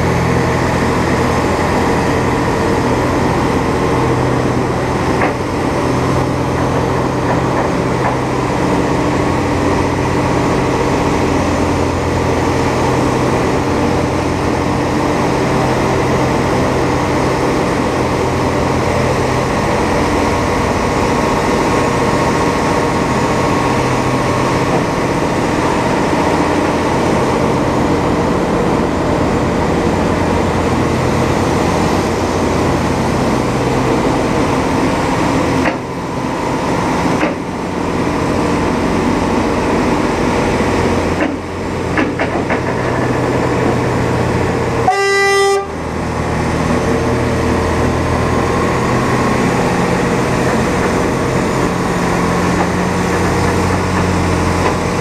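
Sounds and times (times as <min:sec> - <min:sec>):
road and wind noise: 0:00.0 - 0:55.0
truck engine drone: 0:00.0 - 0:55.0.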